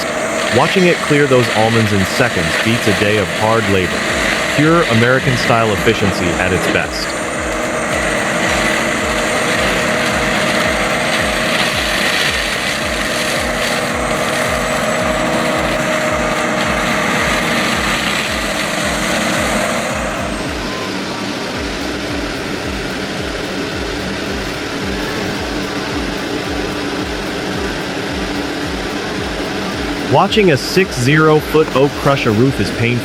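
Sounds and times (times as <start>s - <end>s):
heavy machine engine throbbing: 0.0s - 33.0s.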